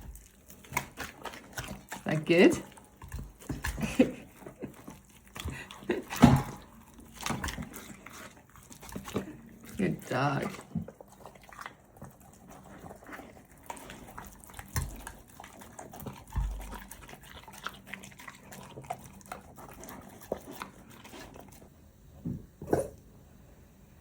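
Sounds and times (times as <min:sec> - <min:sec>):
puppy chewing and licking: 0:00.0 - 0:22.9.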